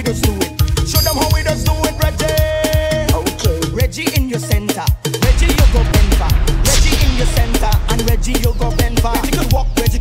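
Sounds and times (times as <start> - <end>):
dance music with heavy bass: 0.0 - 10.0.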